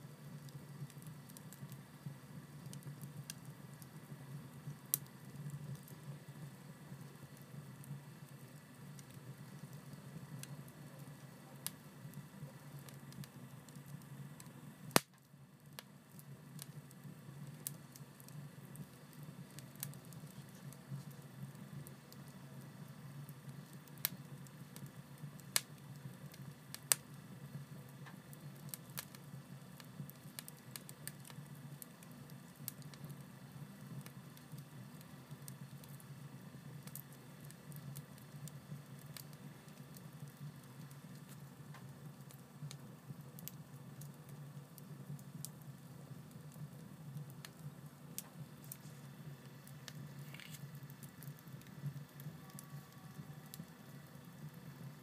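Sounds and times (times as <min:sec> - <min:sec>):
fire crackling in a stove: 0:00.0 - 0:55.0.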